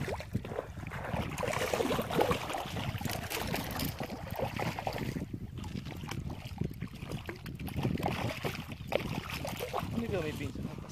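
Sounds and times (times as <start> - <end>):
water lapping against boat hull: 0.0 - 10.9.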